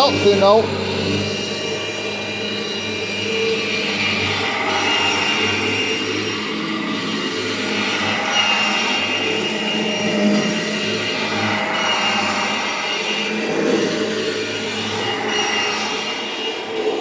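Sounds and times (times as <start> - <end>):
high whine: 0.0 - 17.0
upright vacuum motor drone: 0.0 - 17.0.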